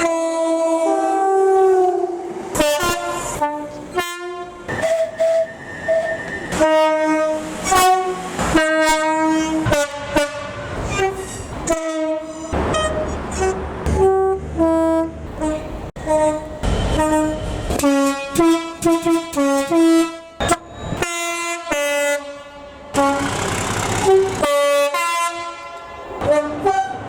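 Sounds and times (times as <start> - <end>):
train horn blasts: 0.0 - 23.4, 24.0 - 27.0.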